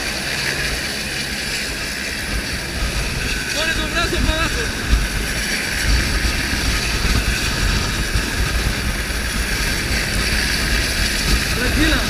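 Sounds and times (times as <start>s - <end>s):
helicopter rotor and engine: 0.0s - 12.0s
wind buffeting microphone: 0.0s - 12.0s.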